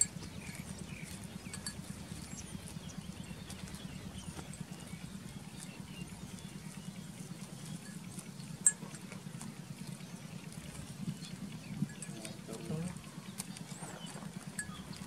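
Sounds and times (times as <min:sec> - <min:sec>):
goats cropping grass: 0:00.0 - 0:15.0
steady low hum: 0:00.0 - 0:15.0.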